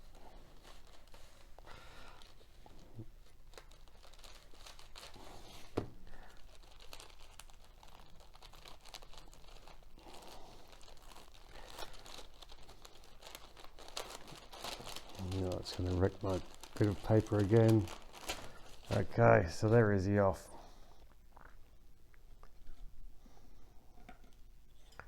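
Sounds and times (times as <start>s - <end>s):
paper crinkling and tearing: 0.0s - 20.4s.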